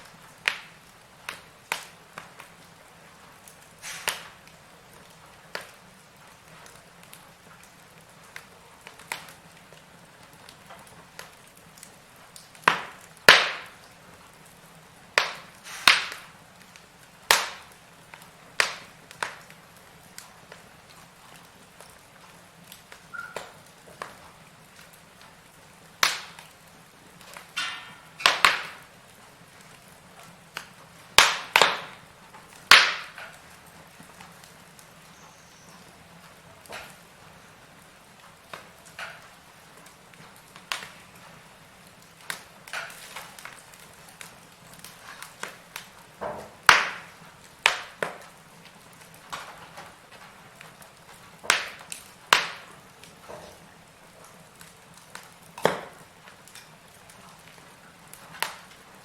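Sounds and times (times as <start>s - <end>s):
faint fire hiss: 0.0s - 59.0s
firewood crackling and popping: 0.0s - 59.0s.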